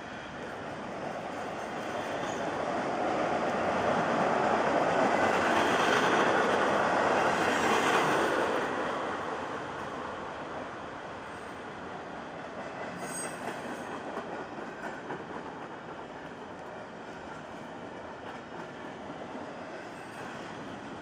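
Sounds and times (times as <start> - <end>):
freight train passing on rails: 0.0 - 21.0.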